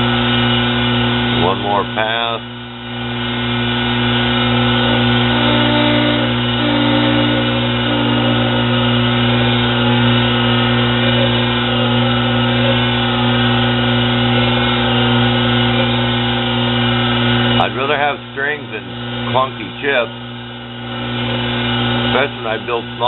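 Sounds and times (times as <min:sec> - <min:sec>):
small lathe humming and whining: 0:00.0 - 0:23.0.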